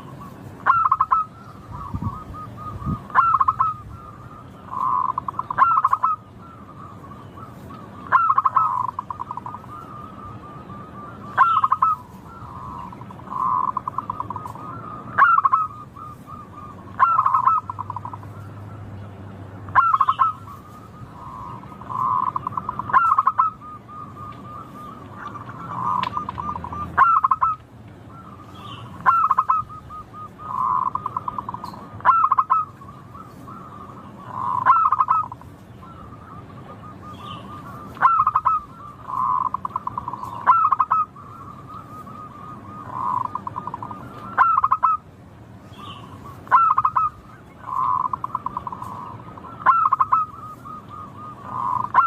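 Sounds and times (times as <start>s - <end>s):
dove cooing: 0.0s - 45.1s, 45.7s - 52.0s.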